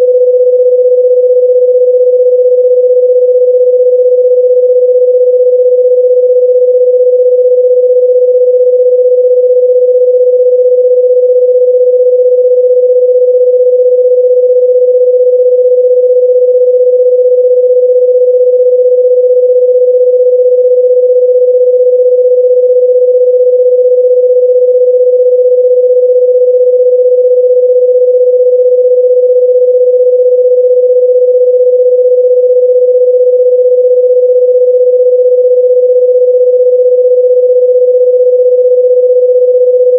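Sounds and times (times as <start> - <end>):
electronic sine tone: 0.0 - 39.9.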